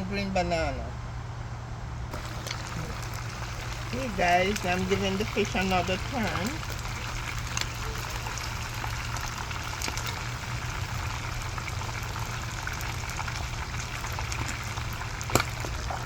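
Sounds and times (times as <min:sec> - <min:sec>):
fish sizzling in hot oil: 0:02.1 - 0:16.0
oil crackles: 0:02.1 - 0:16.0.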